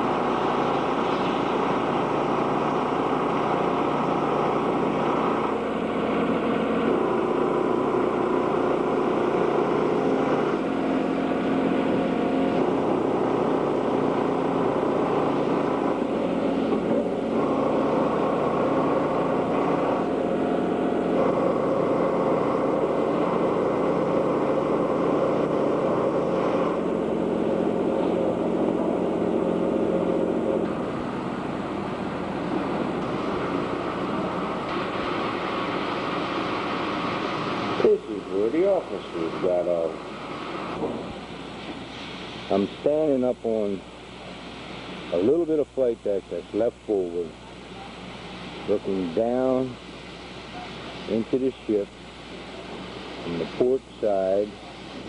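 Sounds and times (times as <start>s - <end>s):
heavy machinery humming: 0.0s - 55.0s.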